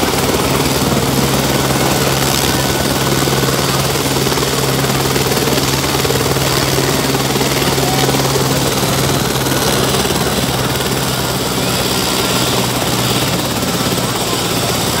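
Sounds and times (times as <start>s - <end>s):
helicopter blade chop: 0.0s - 15.0s
helicopter turbine hum: 0.0s - 15.0s.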